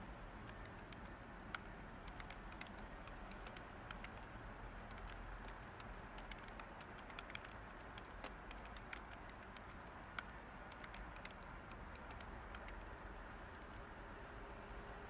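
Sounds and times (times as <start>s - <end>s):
white noise hiss: 0.0s - 15.0s
typing on keyboard: 0.4s - 12.9s.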